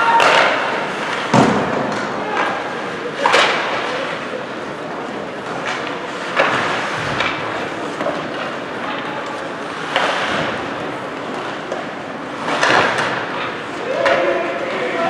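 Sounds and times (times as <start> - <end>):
ice rink noise: 0.0 - 15.0.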